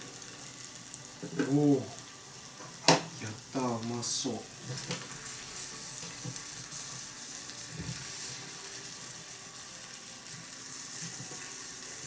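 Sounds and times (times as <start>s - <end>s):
noodles sizzling in a pot: 0.0s - 12.0s.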